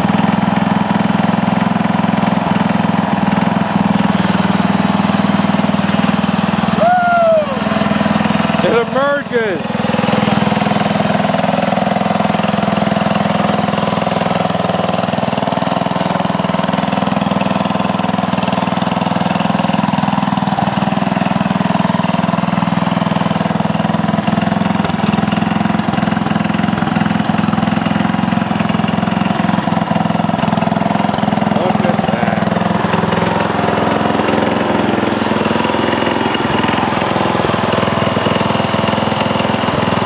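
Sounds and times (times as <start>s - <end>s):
lawn tractor engine running: 0.0s - 40.0s.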